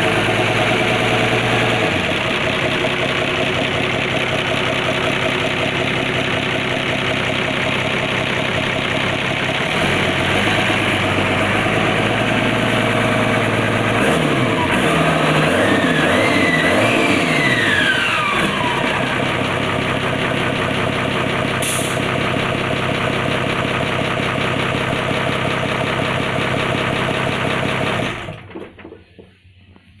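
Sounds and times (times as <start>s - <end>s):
engine revving and running: 0.0s - 28.5s.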